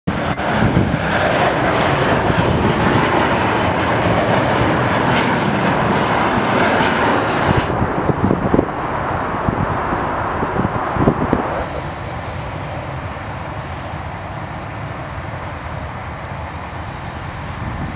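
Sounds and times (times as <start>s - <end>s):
jet engine rush with fan whine: 0.1s - 17.9s.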